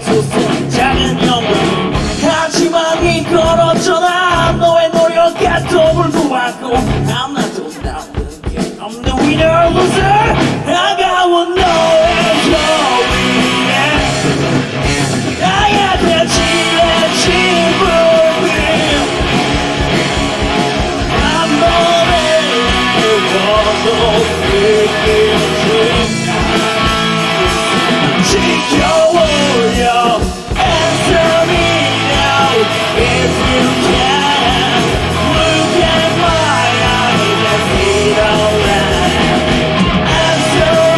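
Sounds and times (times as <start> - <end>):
live rock band playing: 0.0 - 10.9, 11.6 - 40.9.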